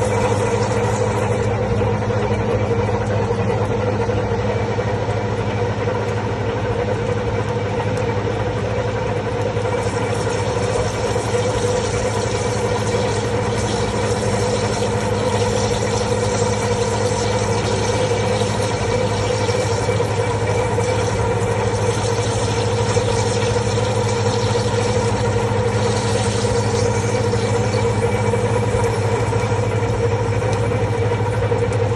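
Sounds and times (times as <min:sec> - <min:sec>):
lathe running: 0:00.0 - 0:31.9.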